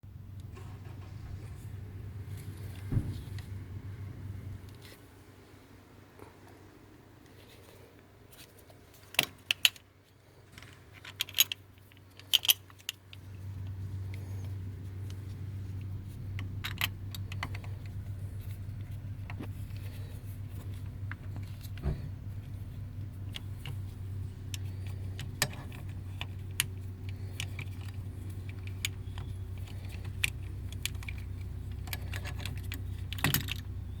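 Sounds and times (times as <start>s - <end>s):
low hum: 0.0s - 7.1s, 13.0s - 34.0s.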